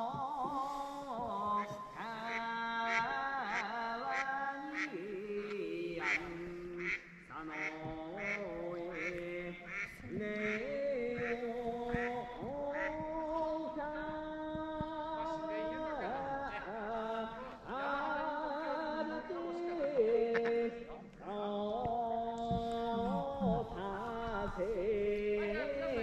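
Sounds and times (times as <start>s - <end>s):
man singing folk song: 0.0s - 26.0s.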